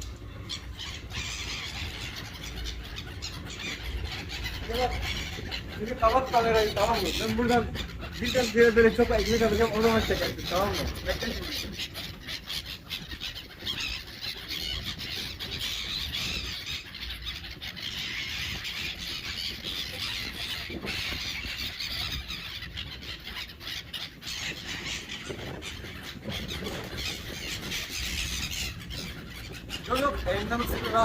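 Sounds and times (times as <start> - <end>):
gulls squealing and squawking: 0.0 - 31.0.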